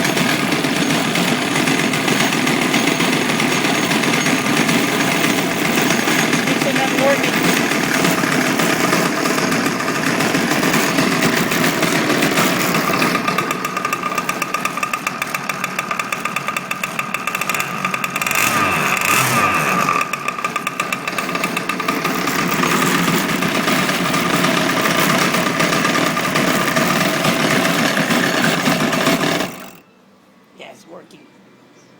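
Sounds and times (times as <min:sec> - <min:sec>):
small gas engine running: 0:00.0 - 0:29.8.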